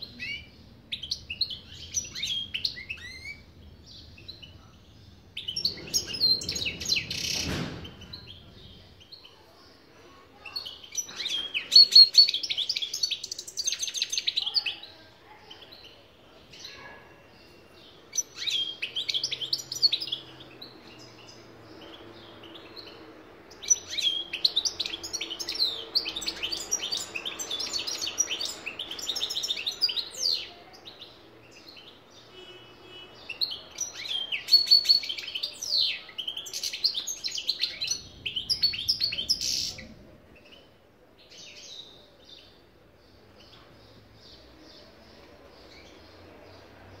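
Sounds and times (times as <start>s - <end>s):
bird twittering song: 0.0s - 9.4s, 16.5s - 46.8s.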